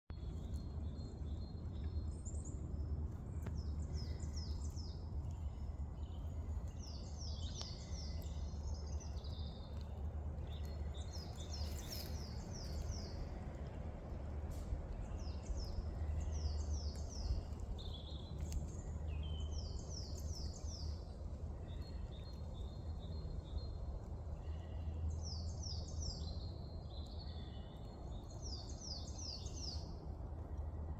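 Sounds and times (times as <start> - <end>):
birds singing: 0.1 - 30.6
steady low rumble: 0.1 - 30.9.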